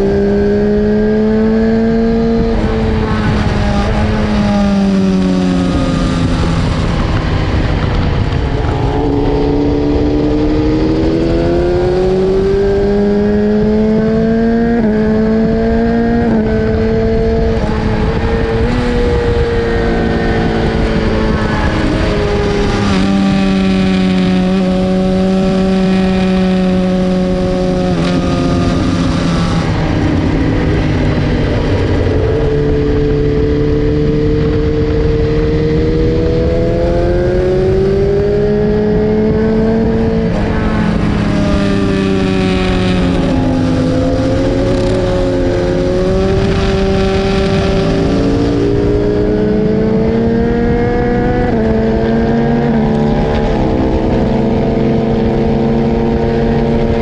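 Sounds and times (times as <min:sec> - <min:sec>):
loud wind rush: 0:00.0 - 0:57.0
motorcycle engine revving: 0:00.0 - 0:57.0.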